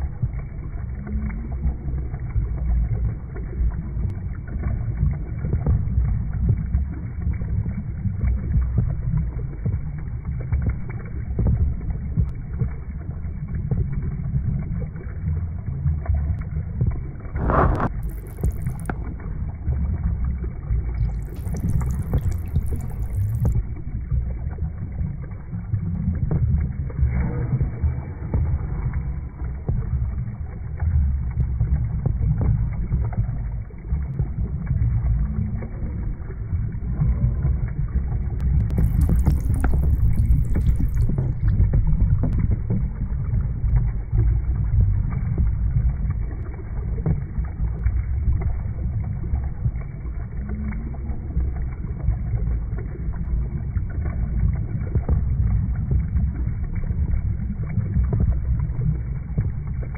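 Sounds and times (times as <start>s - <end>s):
deep rumble of churning water: 0.0s - 59.9s.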